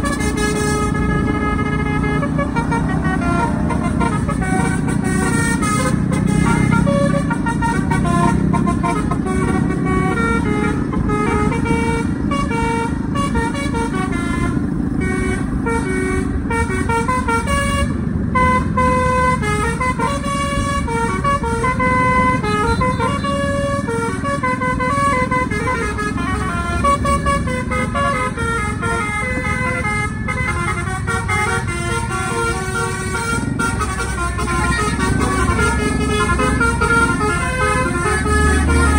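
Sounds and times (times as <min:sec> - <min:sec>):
bus air horns playing melody: 0:00.0 - 0:38.9
engine and road noise: 0:00.0 - 0:38.9.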